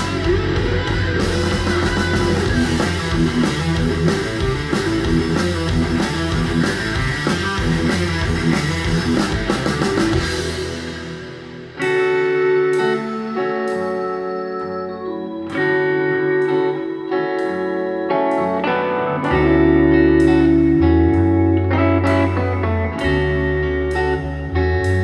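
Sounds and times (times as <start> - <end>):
metal music through speakers: 0.0 - 25.0
soft rock music with guitar: 0.0 - 25.0.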